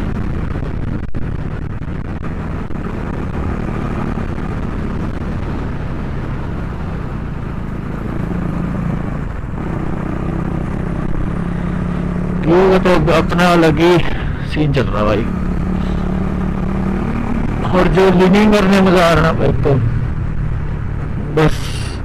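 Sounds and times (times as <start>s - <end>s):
motorcycle engine cruising: 0.0s - 22.0s
wind rushing on microphone: 0.0s - 22.0s.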